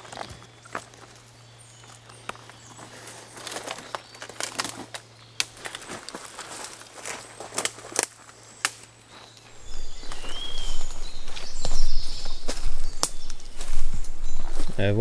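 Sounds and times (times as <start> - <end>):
twigs snapping underfoot: 0.0 - 14.8
rustling of grass and stems: 0.0 - 15.0.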